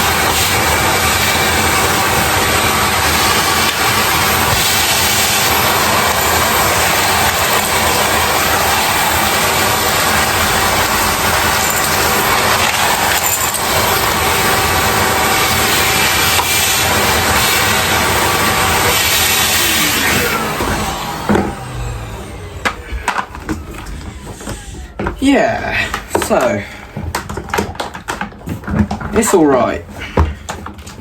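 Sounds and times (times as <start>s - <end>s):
vacuum head scraping over carpet: 0.0s - 25.2s
vacuum cleaner motor drone: 0.0s - 27.1s.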